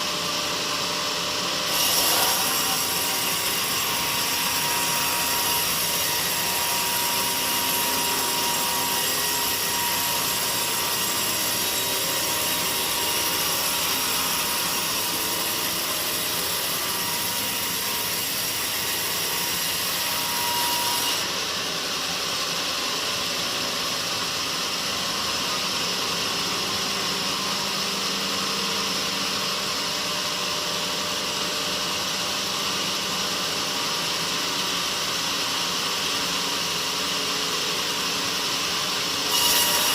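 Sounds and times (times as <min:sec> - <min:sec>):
sawmill saw cutting logs: 0:00.0 - 0:39.9.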